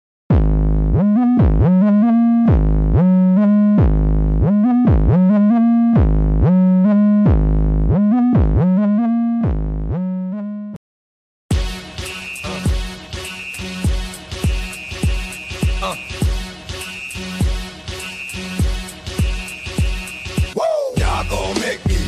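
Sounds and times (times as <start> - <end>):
electronic synthesizer music: 0.3 - 10.8, 11.5 - 22.0
swooping deep bass notes: 0.3 - 10.8, 11.5 - 22.0.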